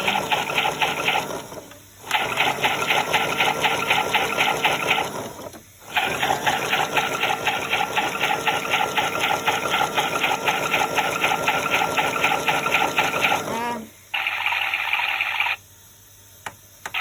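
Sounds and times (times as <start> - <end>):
toy washing machine whirring: 0.0 - 15.6.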